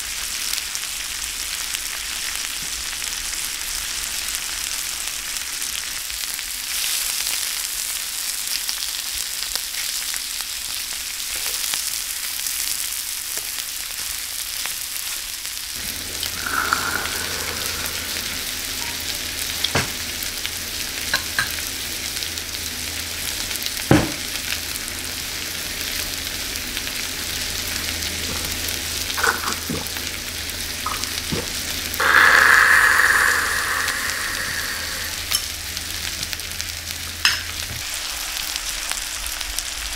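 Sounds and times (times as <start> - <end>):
meat sizzling on a grill pan: 0.0 - 39.9.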